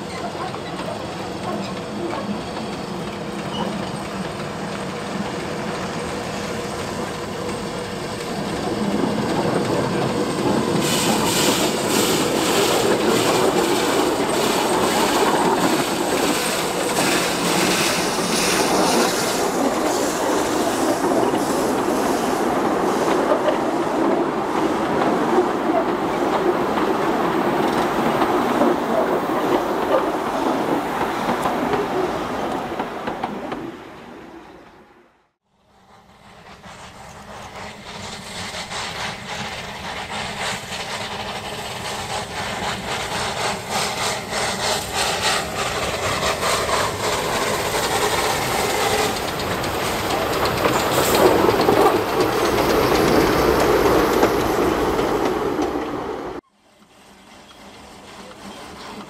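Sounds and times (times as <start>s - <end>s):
steam locomotive exhaust beats: 0.0s - 33.6s, 35.7s - 59.0s
train wheels clicking on rail joints: 0.0s - 34.0s, 36.3s - 59.0s.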